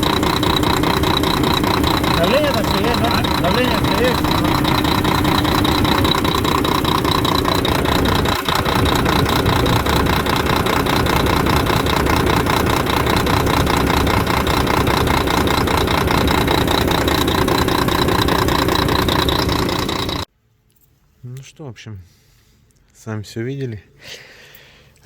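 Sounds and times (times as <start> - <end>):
diesel truck engine idling roughly: 0.0 - 20.3.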